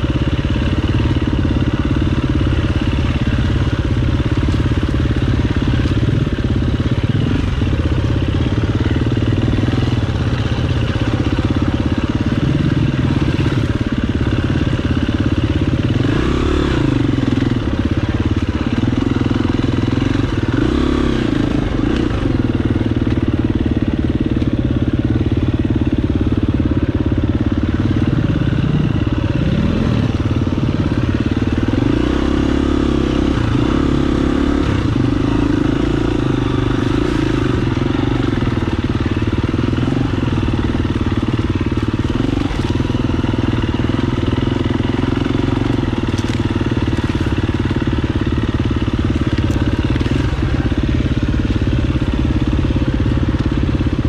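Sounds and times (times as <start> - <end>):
dirt bike engine revving: 0.0 - 25.1, 27.4 - 54.0.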